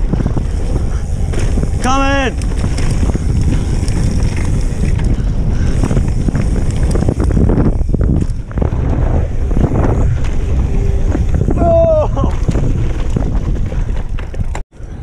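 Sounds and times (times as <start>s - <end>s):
bike rattling clicks and knocks: 0.0s - 15.0s
tyres rushing on dirt trail: 0.0s - 15.0s
wind buffeting microphone: 0.0s - 15.0s.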